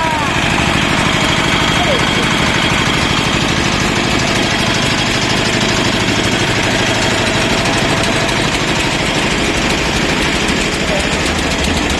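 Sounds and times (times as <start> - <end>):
machine engine knocking steadily: 0.0 - 11.9.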